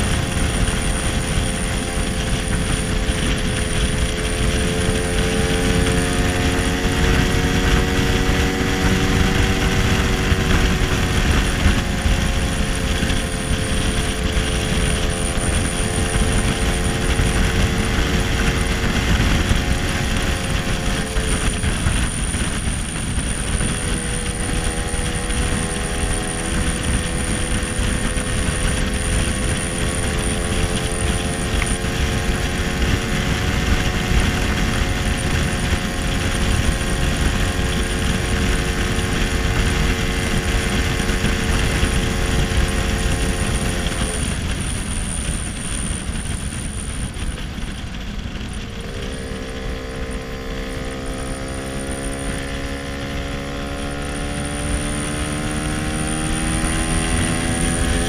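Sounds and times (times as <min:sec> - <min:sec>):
scooter engine running: 0:00.0 - 0:58.0
wind rumble on microphone: 0:00.0 - 0:58.0.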